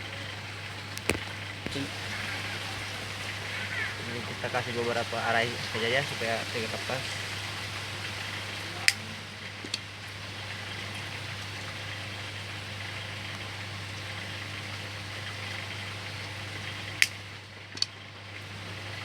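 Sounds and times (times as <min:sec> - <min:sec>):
low hum and hiss: 0:00.0 - 0:19.0.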